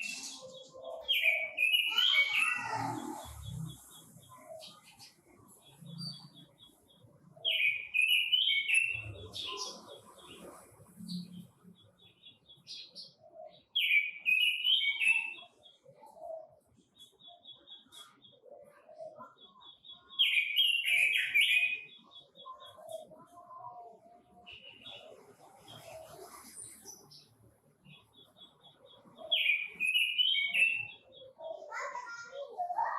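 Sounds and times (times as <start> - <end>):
bird singing warbling phrases: 0.0 - 32.9.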